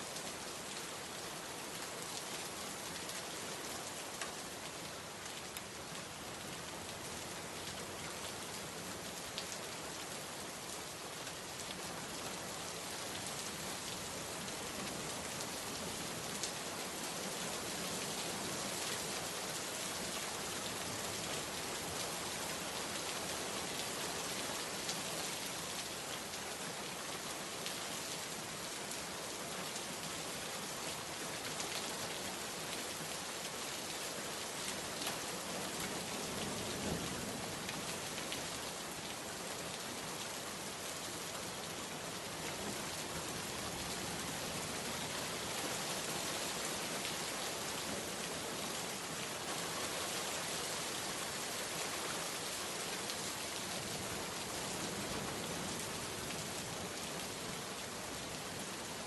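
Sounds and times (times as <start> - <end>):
heavy rain falling: 0.1 - 59.0.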